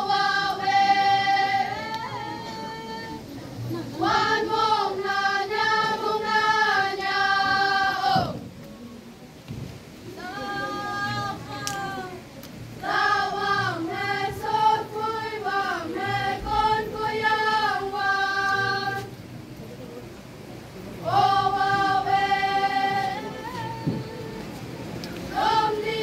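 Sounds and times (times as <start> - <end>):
girls singing in unison: 0.0 - 8.5, 10.1 - 19.2, 21.0 - 26.0.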